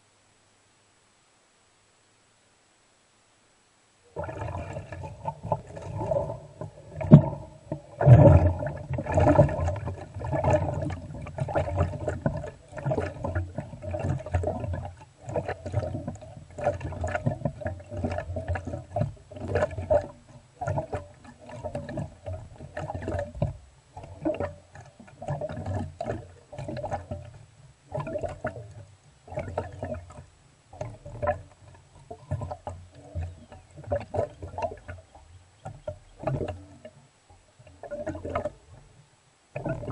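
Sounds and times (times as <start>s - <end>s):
air gurgling through water: 4.1s - 39.9s.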